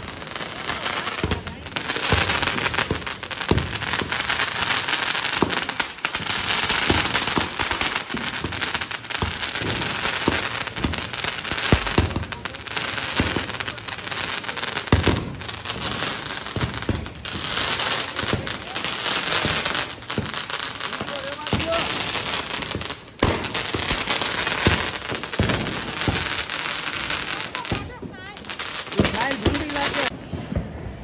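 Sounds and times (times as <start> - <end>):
firecrackers cracking and popping: 0.0 - 31.0
fountain fireworks hissing: 0.0 - 31.0.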